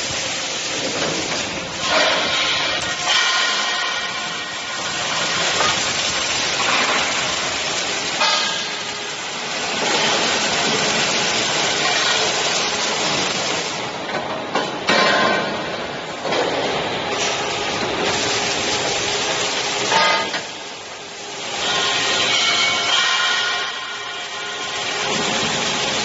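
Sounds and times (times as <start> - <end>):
welding machine hissing: 0.0 - 14.0, 16.5 - 26.0.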